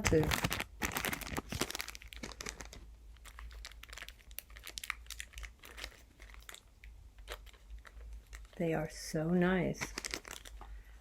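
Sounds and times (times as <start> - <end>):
packaging crinkling: 0.0 - 8.8, 9.7 - 10.9.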